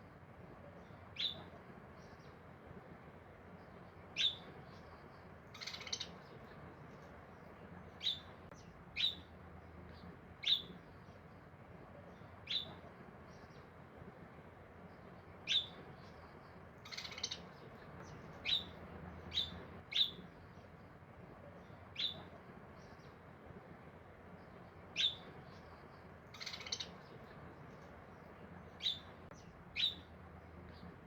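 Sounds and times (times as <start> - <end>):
birds chirping: 0.8 - 2.5, 3.5 - 13.8, 14.8 - 20.7, 21.6 - 23.3, 24.3 - 31.0.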